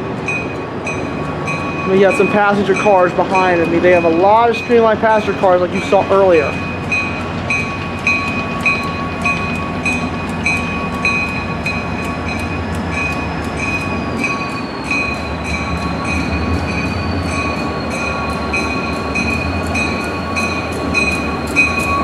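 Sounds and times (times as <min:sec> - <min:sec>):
idling train diesel drone: 0:00.0 - 0:22.0
steady high tones: 0:00.2 - 0:22.0.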